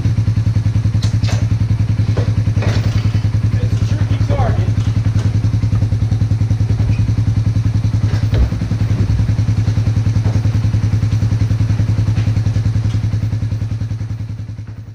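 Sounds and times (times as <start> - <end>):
small engine puttering: 0.0 - 14.9.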